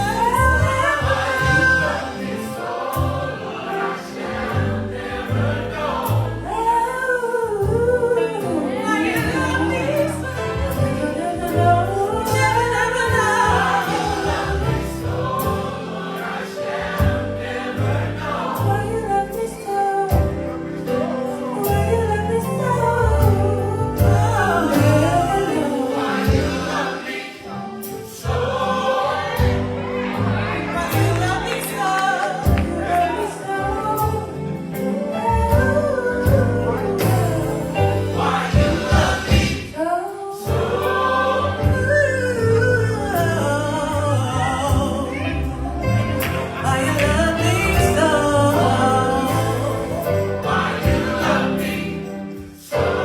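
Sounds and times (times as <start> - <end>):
bass-heavy band: 0.0 - 53.0
gospel choir singing: 0.0 - 53.0.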